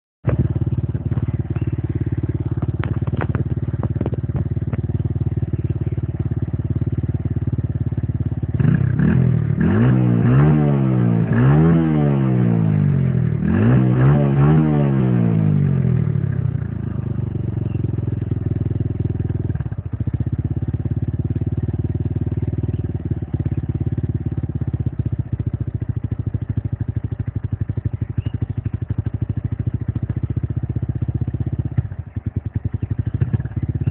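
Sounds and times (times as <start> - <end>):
motorcycle exhaust idling: 0.2 - 33.9
motorcycle throttle blips revving: 0.2 - 33.9.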